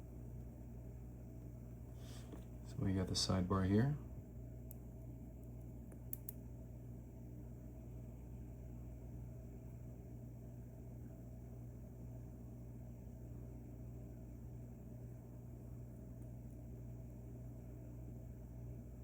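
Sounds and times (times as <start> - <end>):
low hum with hiss: 0.0 - 19.0.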